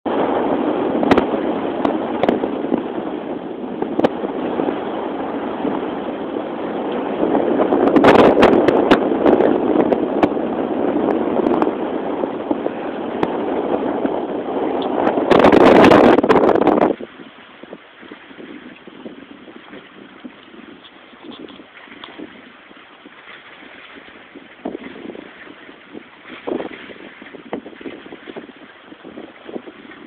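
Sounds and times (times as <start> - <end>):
wind buffeting microphone: 0.1 - 30.0.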